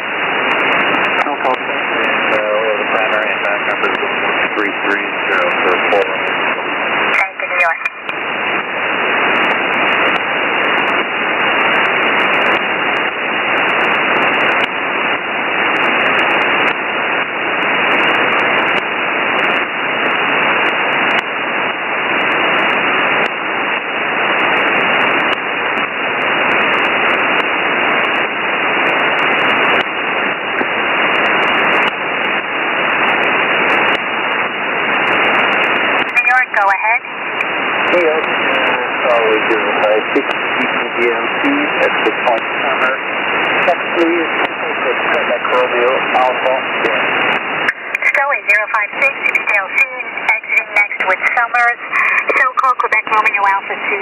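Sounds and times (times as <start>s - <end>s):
radio band noise hiss: 0.0s - 54.0s
static crackles: 0.0s - 54.0s.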